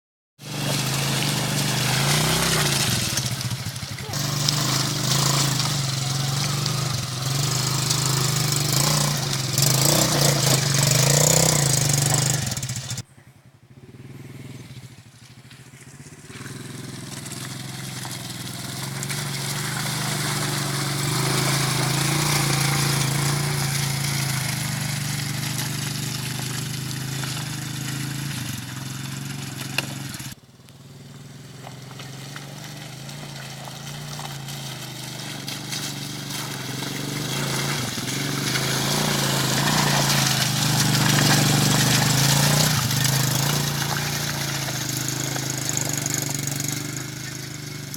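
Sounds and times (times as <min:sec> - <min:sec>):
atv engine running: 0:00.4 - 0:47.9.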